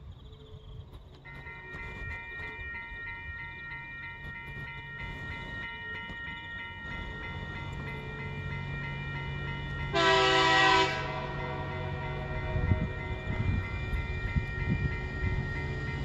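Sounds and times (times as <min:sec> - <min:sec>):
crickets chirping: 0:00.0 - 0:16.0
level crossing warning bell: 0:01.2 - 0:16.0.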